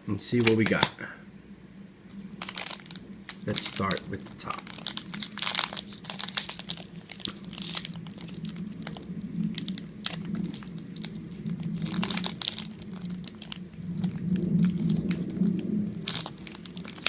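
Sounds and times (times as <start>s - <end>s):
plastic wrapper crinkling: 0.3s - 1.0s, 2.1s - 17.0s.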